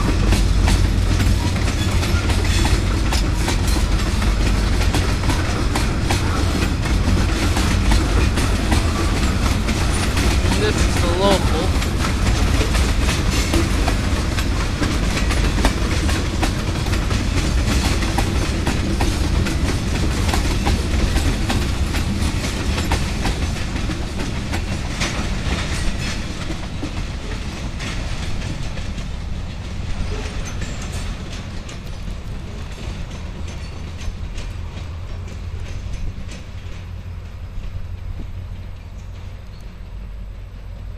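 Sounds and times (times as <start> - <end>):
freight train rumble: 0.0 - 40.9
train wheels clicking over rail joints: 0.0 - 40.9.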